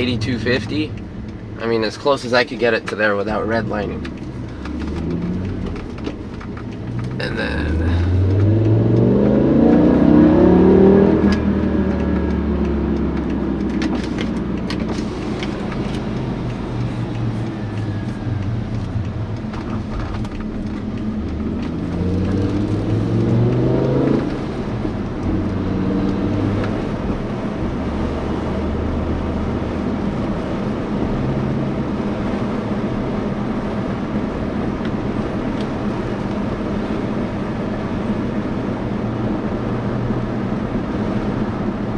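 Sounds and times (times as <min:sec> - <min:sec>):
car engine accelerating hard: 0:00.0 - 0:41.9.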